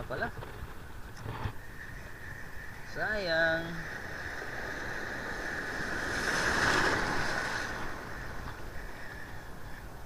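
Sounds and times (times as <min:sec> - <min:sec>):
sea water splashing: 0:01.6 - 0:10.0.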